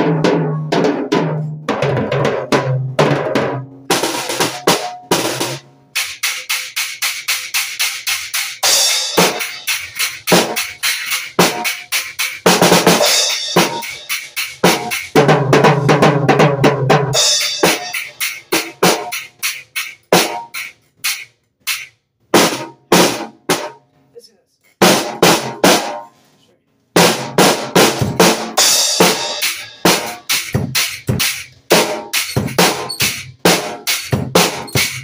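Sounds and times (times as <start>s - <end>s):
snare and tom strokes: 0.0s - 23.8s, 27.0s - 35.0s.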